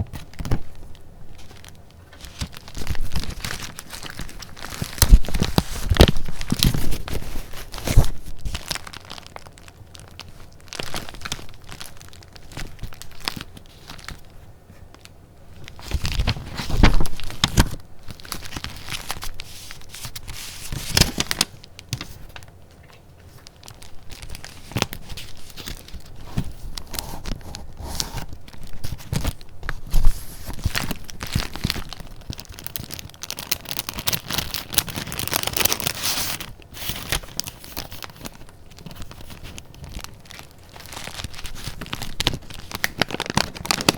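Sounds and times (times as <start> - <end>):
paper being handled: 1.4 - 15.0, 15.6 - 22.5, 23.2 - 43.9.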